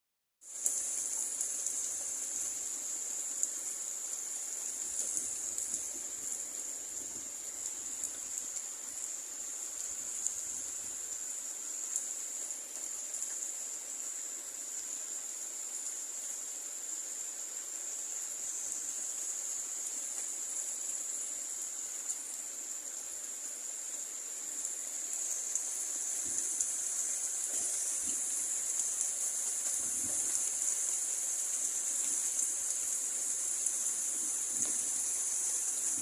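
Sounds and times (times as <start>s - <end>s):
steady rain: 0.4s - 36.0s.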